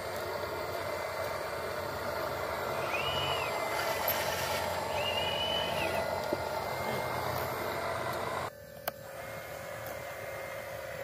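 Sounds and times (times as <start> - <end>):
motor whine spinning up: 0.0 - 11.0
whir of small motors: 0.0 - 11.0.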